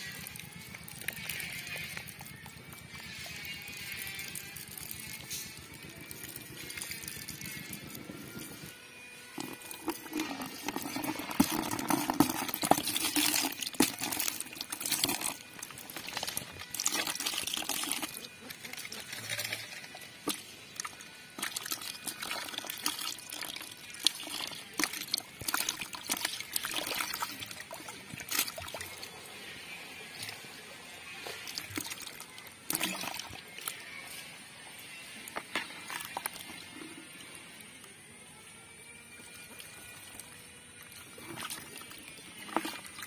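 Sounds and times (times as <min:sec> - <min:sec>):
water trickling into bucket: 0:00.0 - 0:43.0.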